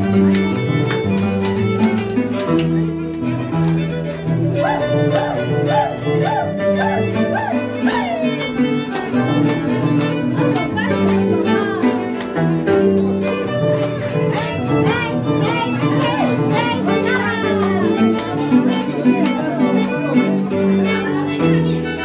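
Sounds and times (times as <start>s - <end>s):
plucked beat: 0.0s - 22.0s
violin dance music: 0.0s - 22.0s.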